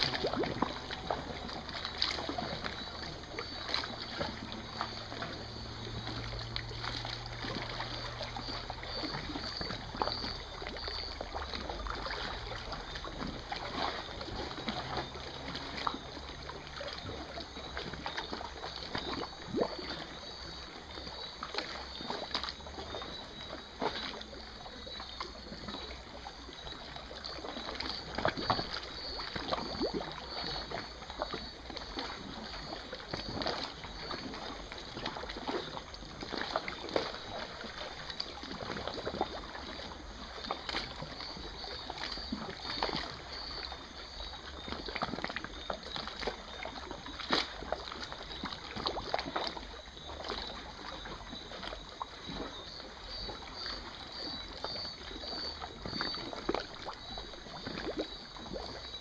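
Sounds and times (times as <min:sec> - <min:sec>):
crickets chirring: 0:00.0 - 0:59.0.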